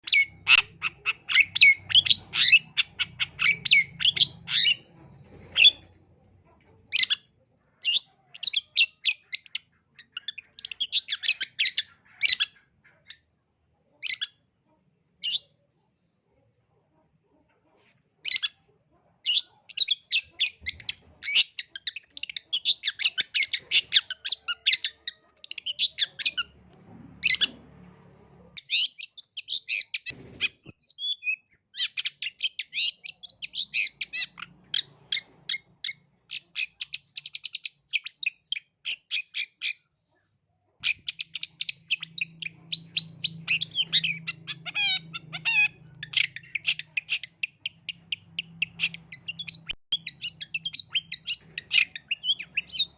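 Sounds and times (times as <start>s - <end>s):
bird chattering song: 0.0s - 6.0s, 6.8s - 14.5s, 15.2s - 15.6s, 18.2s - 26.6s, 28.4s - 39.9s, 40.8s - 52.9s.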